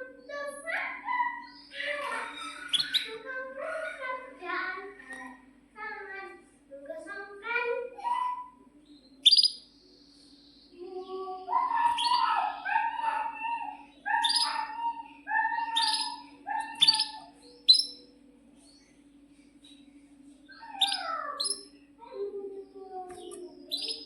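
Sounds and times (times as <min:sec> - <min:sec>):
canary singing chirps: 0:00.0 - 0:05.3, 0:07.8 - 0:24.0.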